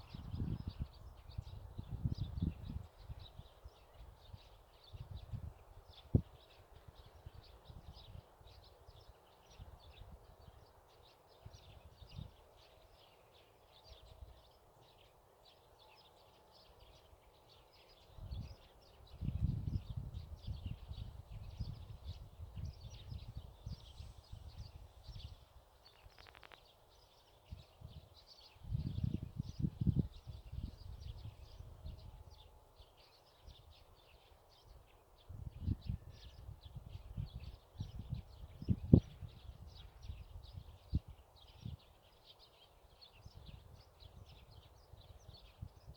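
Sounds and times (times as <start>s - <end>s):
wind rumble on microphone: 0.0s - 10.7s, 11.4s - 12.4s, 17.9s - 26.6s, 27.4s - 32.6s, 33.4s - 42.4s, 43.0s - 45.9s
small birds chirping: 0.0s - 45.9s.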